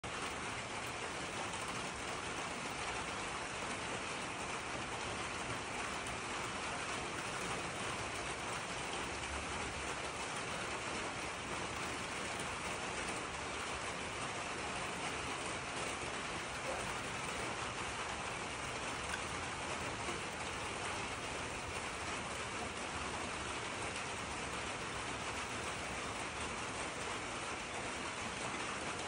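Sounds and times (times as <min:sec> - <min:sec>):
steady hiss of noise: 0:00.0 - 0:29.0.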